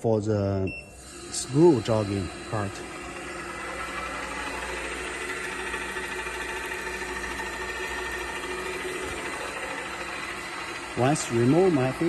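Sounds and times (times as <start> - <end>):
mixer motor humming with whine: 0.7 - 12.0.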